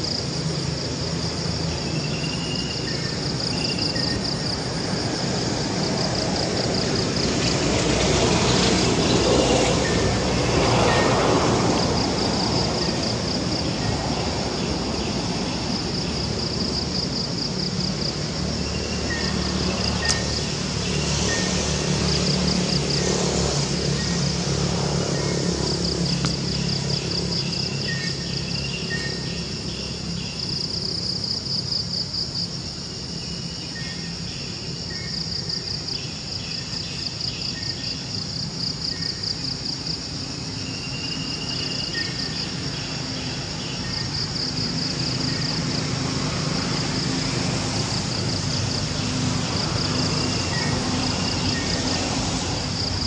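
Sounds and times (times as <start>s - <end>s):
insects trilling: 0.0s - 53.0s.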